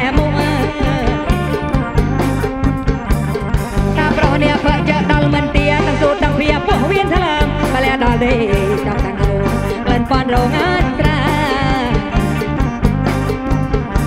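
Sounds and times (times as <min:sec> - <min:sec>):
band music with wavering melody: 0:00.0 - 0:14.0
bass and drum beat: 0:00.0 - 0:14.0.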